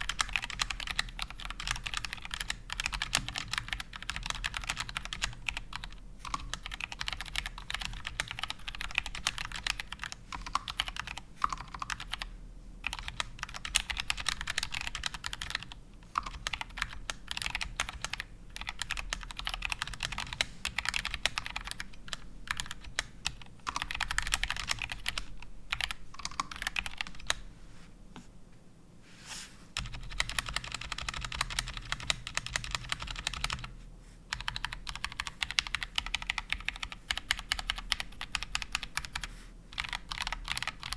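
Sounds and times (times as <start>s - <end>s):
mechanical keyboard keys clacking: 0.1s - 12.2s, 12.9s - 27.4s, 29.8s - 33.7s, 34.3s - 39.2s, 39.8s - 40.9s.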